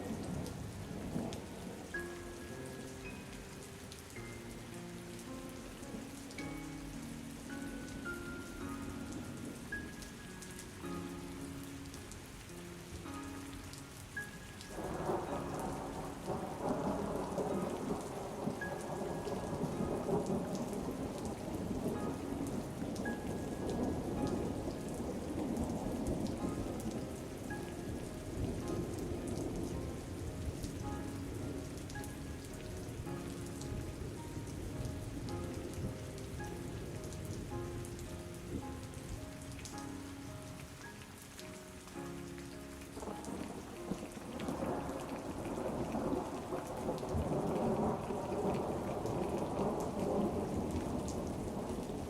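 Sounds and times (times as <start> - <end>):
soft background music: 0.0 - 52.0
steady rain: 0.0 - 52.0.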